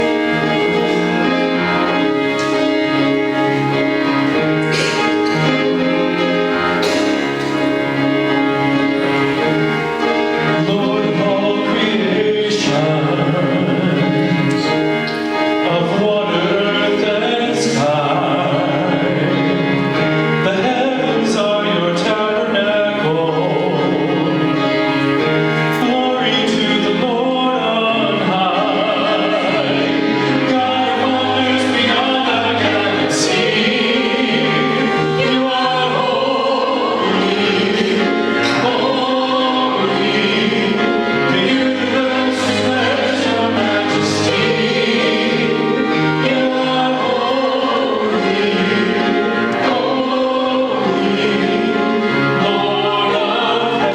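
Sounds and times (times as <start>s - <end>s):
choir singing: 0.0s - 53.9s
instrumental accompaniment: 0.0s - 53.9s.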